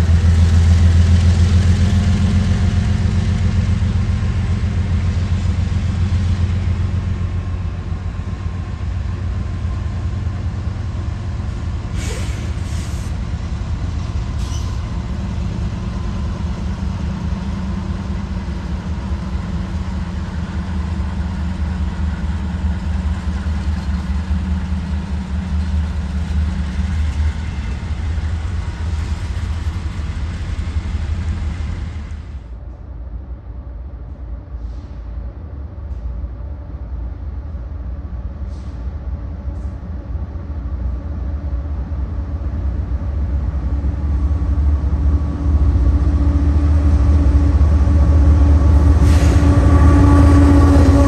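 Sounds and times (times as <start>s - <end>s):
locomotive engines rumbling: 0.0s - 32.8s, 34.4s - 51.0s.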